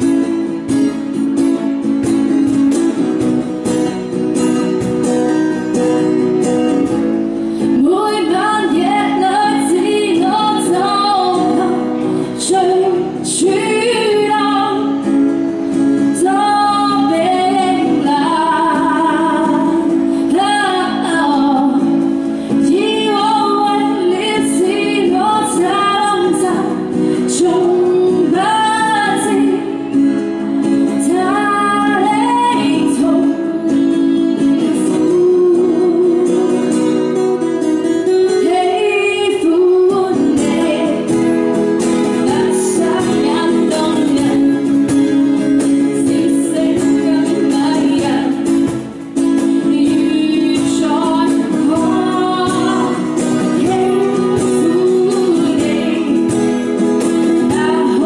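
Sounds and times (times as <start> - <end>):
acoustic guitar: 0.0 - 58.0
woman singing pop song: 4.8 - 58.0.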